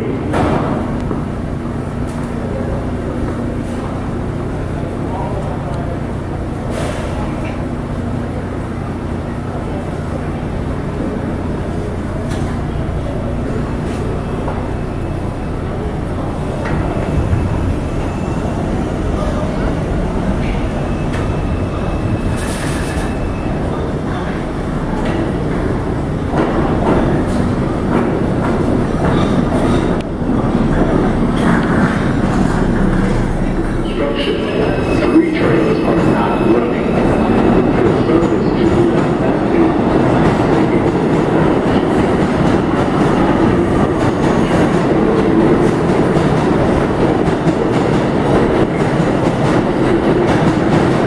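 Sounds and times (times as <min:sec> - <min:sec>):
subway train rumbling: 0:00.0 - 0:51.0.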